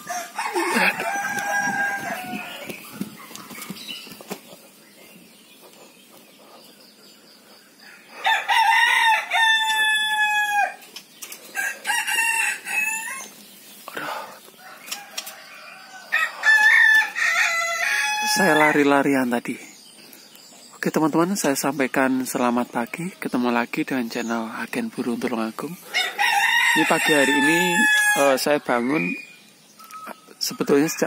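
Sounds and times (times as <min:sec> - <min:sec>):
roosters crowing: 0:00.0 - 0:05.8, 0:06.8 - 0:19.3, 0:21.2 - 0:31.0.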